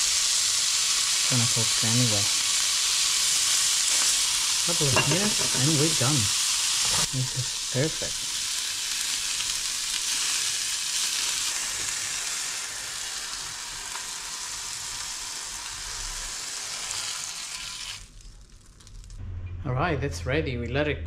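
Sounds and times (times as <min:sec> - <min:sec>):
fish sizzling in a pan: 0:00.0 - 0:19.1.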